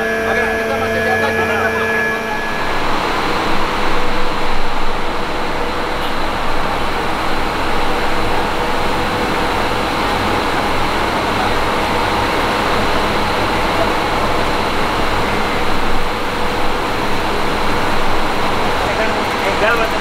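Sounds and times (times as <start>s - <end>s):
low mechanical hum: 0.0s - 20.0s
water gushing from pipes: 2.5s - 20.0s.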